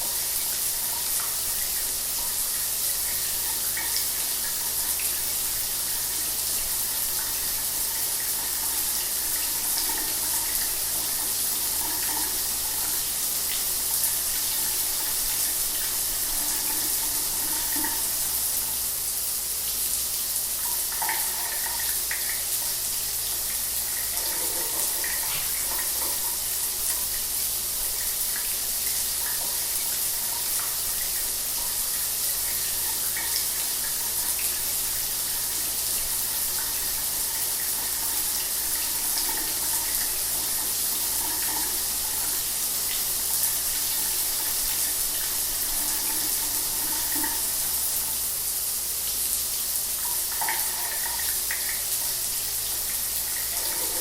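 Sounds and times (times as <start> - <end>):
shower water running: 0.0 - 54.0.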